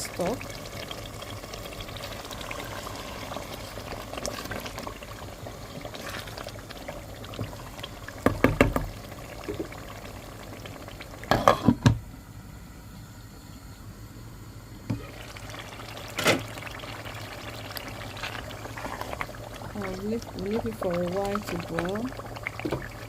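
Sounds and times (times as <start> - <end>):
stew bubbling and sizzling: 0.0 - 12.0, 14.9 - 23.0.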